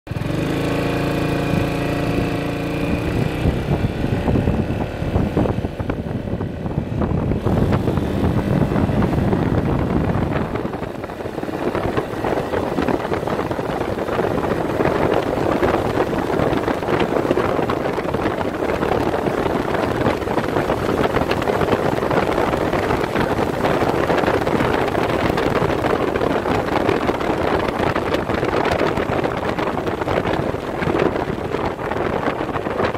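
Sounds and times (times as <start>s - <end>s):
scooter engine at high revs: 0.1s - 32.9s
wind rushing over microphone: 0.1s - 32.9s.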